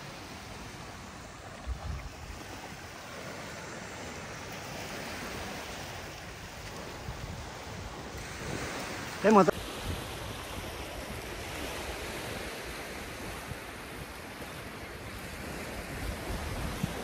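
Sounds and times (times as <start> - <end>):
sea surf washing onto beach: 0.0 - 17.0
wind on microphone: 1.3 - 17.0.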